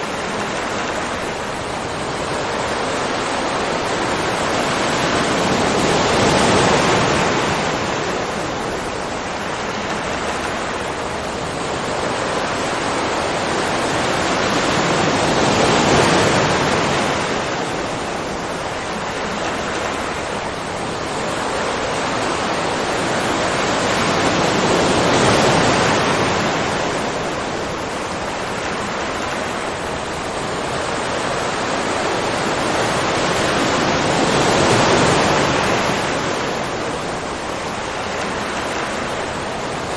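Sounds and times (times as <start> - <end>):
ocean waves: 0.0 - 39.9.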